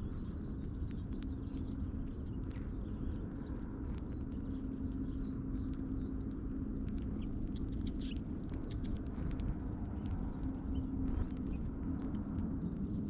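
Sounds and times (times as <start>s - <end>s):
birds cracking seeds: 0.0s - 13.0s
steady low hum: 0.0s - 13.0s.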